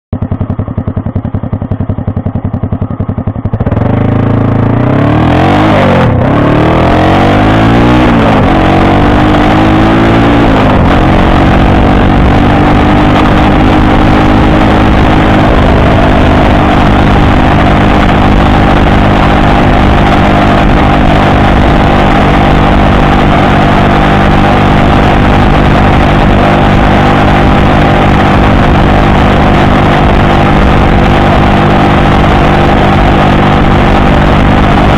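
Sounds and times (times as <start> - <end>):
small motorcycle engine revving: 0.2 - 34.9.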